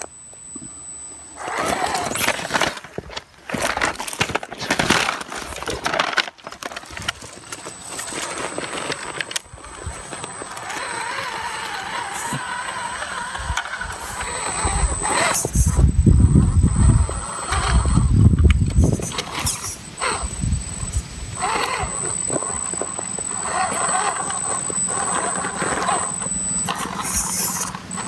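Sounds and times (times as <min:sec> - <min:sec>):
electric motor whining: 0:00.0 - 0:28.0
thin electronic whine: 0:00.0 - 0:28.0
tyres scraping on rock: 0:01.4 - 0:15.8, 0:18.7 - 0:28.0.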